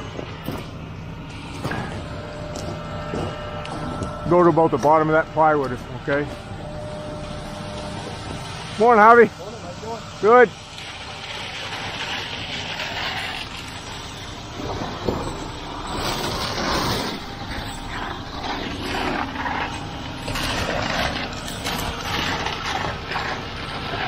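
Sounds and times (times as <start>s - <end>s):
concrete pump running: 0.0s - 24.0s.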